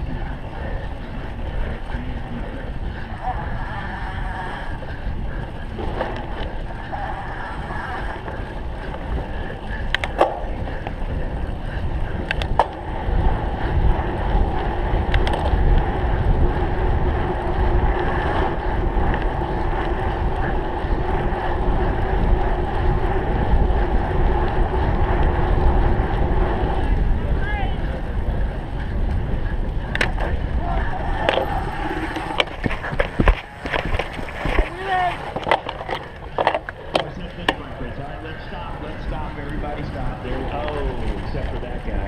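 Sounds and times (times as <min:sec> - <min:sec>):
bike tyre and frame rattle: 0:00.0 - 0:42.0
wind on microphone: 0:00.0 - 0:42.0.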